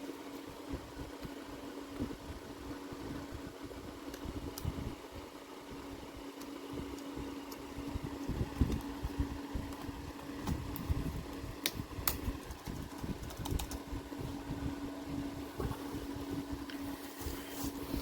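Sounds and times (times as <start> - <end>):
background hum with low rumble: 0.0 - 18.0.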